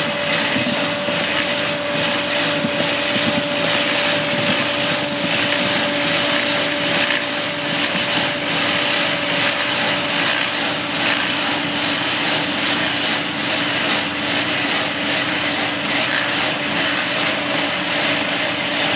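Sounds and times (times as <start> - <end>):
trencher milling wheel cutting soil: 0.0 - 18.9.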